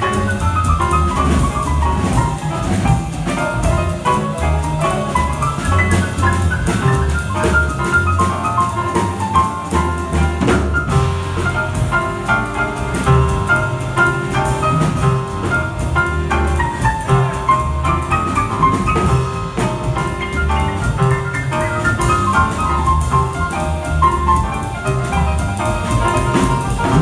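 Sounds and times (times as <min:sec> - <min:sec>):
jazz big band playing: 0:00.0 - 0:27.0.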